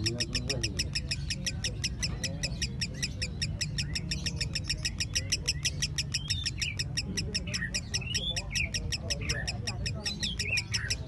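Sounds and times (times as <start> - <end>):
bird singing high chirps: 0.0 - 11.0.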